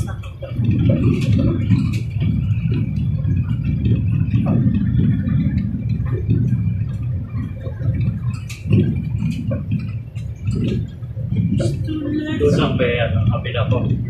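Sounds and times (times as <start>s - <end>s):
light knocks and rattles: 0.0s - 14.0s
vehicle engine and road rumble: 0.0s - 14.0s.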